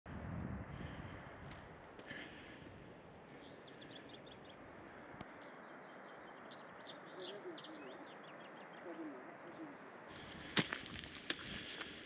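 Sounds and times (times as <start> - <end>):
small birds chirping: 2.0 - 12.0.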